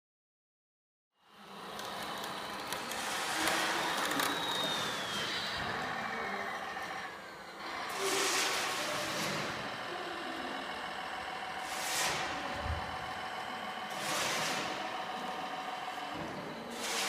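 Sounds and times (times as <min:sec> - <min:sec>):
model vehicle motor noise: 0:01.2 - 0:17.0.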